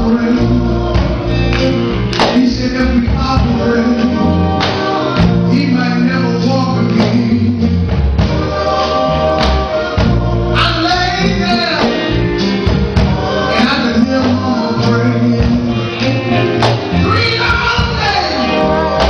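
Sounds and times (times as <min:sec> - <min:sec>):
gospel singing over a band: 0:00.0 - 0:19.0.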